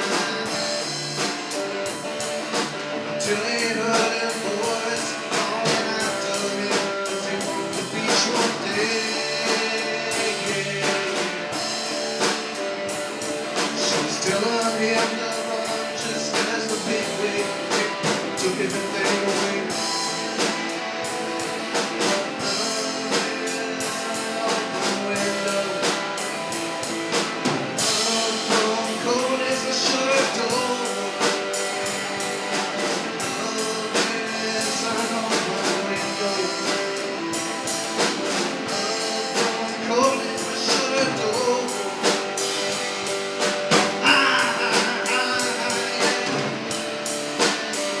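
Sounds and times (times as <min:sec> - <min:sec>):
drum kit beat: 0:00.0 - 0:48.0
electric guitar: 0:00.0 - 0:48.0.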